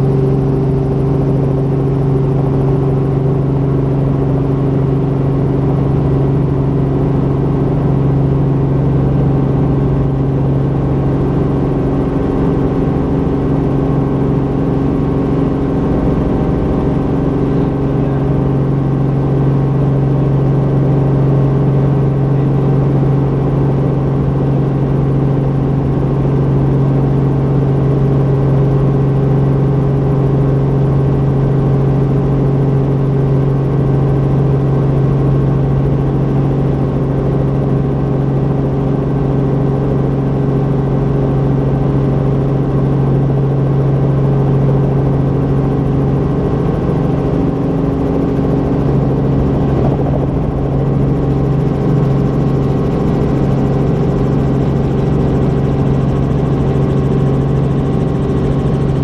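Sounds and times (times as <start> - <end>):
helicopter engine and rotors droning: 0.0 - 59.0.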